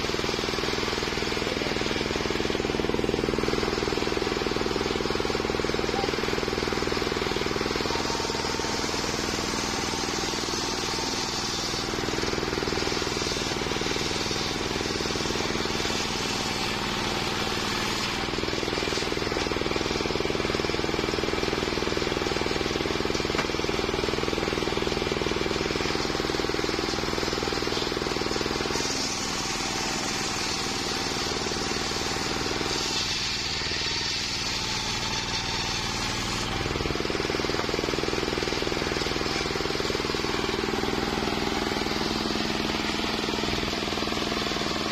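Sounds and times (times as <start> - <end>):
saw blade hissing through wood: 0.0 - 21.2, 24.0 - 44.9
sawmill motor droning: 0.0 - 44.9.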